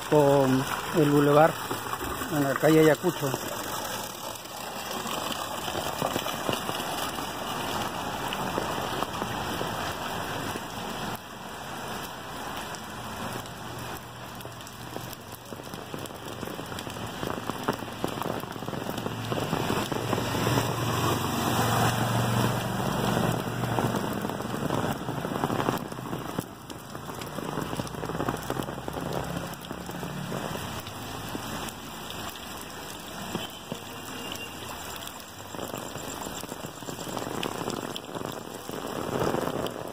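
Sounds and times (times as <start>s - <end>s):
heavy rain on standing water: 0.0s - 39.9s.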